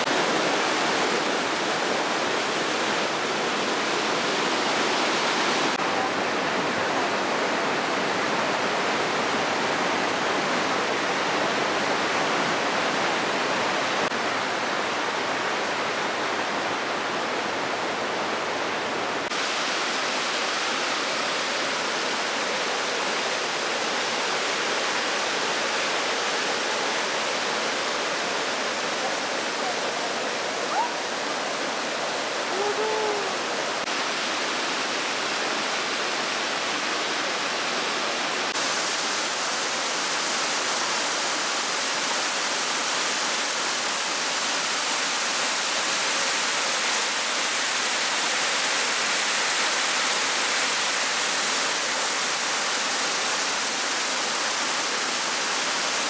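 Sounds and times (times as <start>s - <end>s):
waterfall pouring over rocks: 0.0s - 56.0s.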